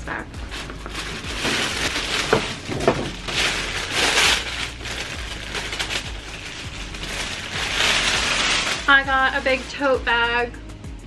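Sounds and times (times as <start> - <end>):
paper bag rustling and crinkling: 0.4 - 10.1.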